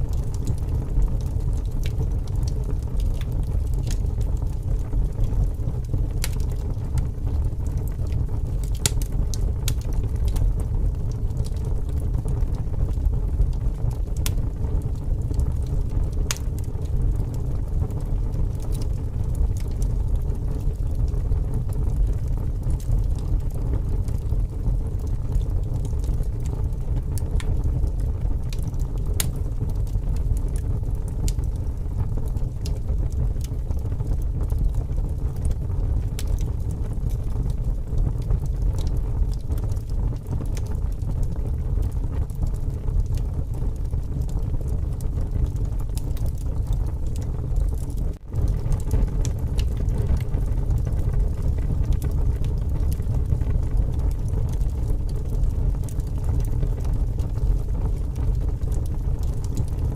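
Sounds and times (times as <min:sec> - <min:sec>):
strong wind rumble: 0:00.0 - 0:59.8
wood fire crackling and popping: 0:00.0 - 0:59.9.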